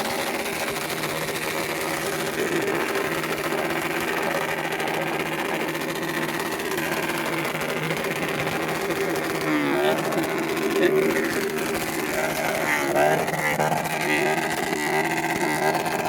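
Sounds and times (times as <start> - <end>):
motorcycle engine buzzing: 0.0 - 16.0.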